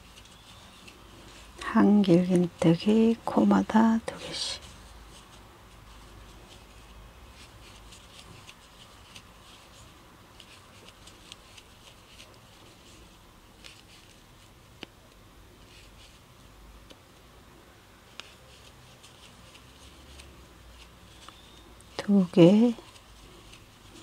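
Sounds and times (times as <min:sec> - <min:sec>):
yarn rustling: 0:00.0 - 0:17.3, 0:18.0 - 0:24.0.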